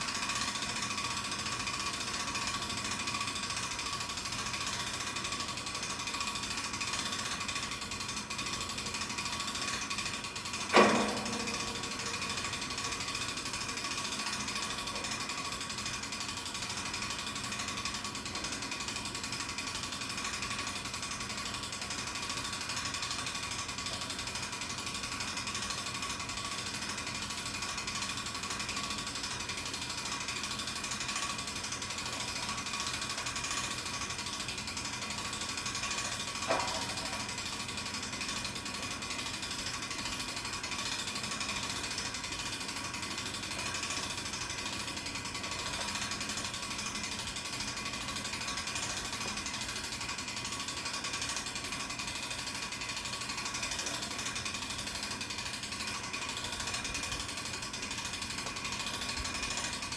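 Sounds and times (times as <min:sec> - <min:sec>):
winch ratchet clicking: 0:00.0 - 0:59.9.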